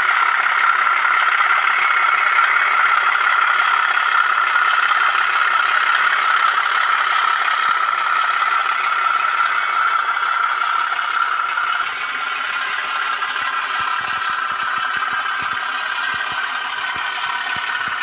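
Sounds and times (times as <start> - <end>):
rattle: 0.0 - 18.0
tinny diesel engine from small speaker: 0.0 - 18.0.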